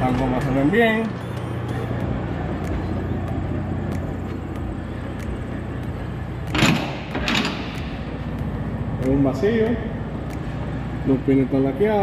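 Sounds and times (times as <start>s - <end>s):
diesel truck idling: 0.0s - 12.0s.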